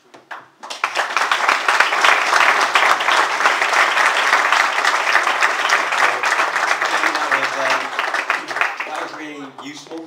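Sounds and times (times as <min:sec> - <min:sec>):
audience applauding: 0:00.6 - 0:10.0.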